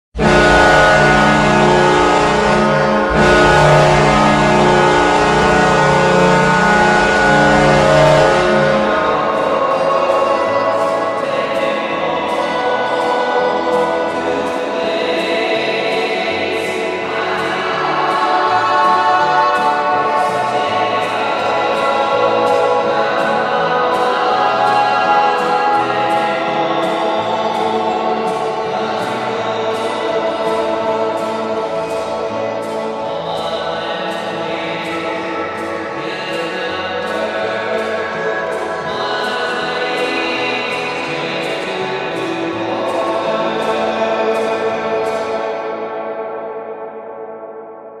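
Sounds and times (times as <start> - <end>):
choral music over a beat: 0.2 - 48.0.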